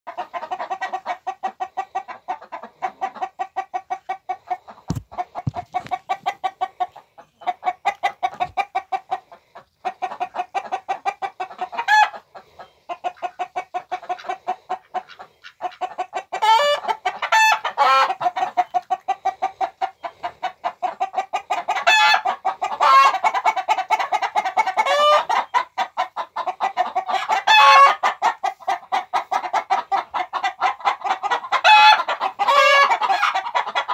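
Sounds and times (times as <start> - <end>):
chickens clucking: 0.1 - 33.9
loud high chicken calls: 0.2 - 33.9.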